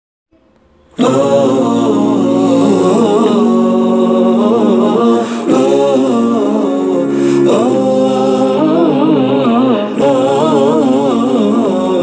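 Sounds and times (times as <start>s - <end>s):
steady held accompaniment: 0.7s - 12.0s
person singing wavering notes: 0.9s - 12.0s.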